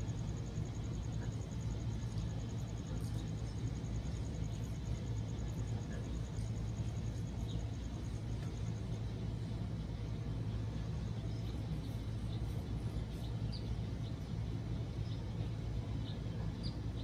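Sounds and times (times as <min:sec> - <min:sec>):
low background rumble and hum: 0:00.0 - 0:17.0.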